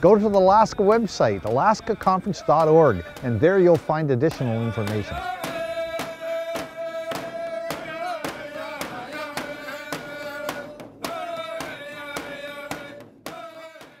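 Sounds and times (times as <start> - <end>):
drums beating: 0.0 - 14.0
voices singing a chant: 0.0 - 14.0.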